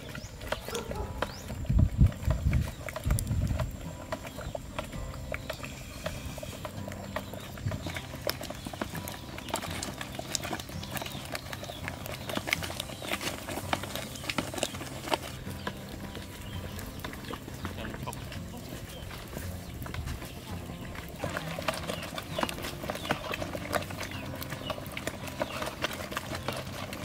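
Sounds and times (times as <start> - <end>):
jam boiling and popping: 0.0 - 27.0.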